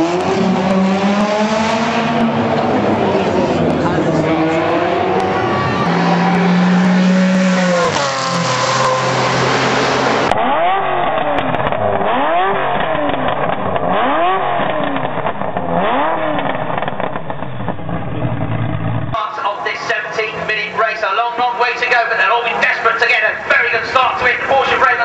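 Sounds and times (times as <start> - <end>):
engine revving: 0.0 - 23.5
supercar engine running: 0.0 - 23.5.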